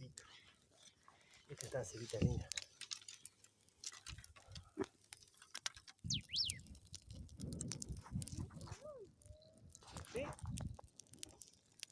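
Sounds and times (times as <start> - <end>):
campfire crackling and popping: 0.0 - 11.9.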